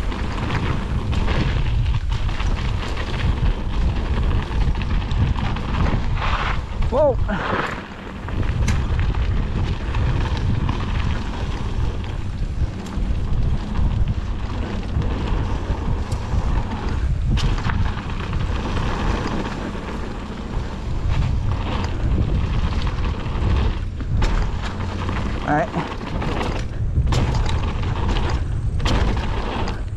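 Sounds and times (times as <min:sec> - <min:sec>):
bike knocking over bumps: 0:00.0 - 0:29.9
tyre noise on dirt: 0:00.0 - 0:29.9
wind rushing over microphone: 0:00.0 - 0:29.9.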